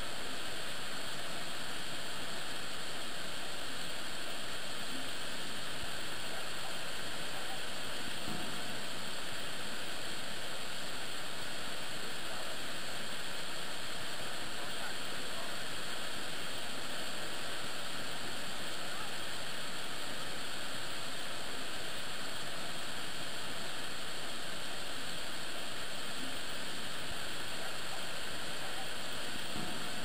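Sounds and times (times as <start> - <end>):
rush of falling water: 0.0 - 30.0.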